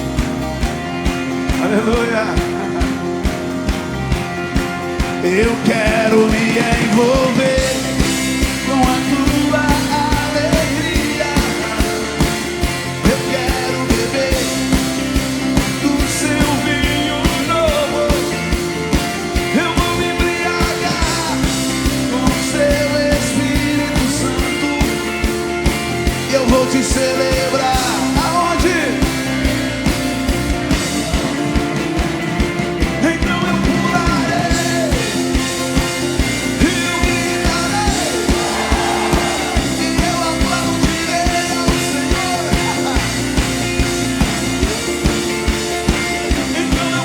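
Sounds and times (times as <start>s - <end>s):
steady drum beat: 0.0s - 47.0s
worship band music: 0.0s - 47.0s
person singing: 1.3s - 47.0s.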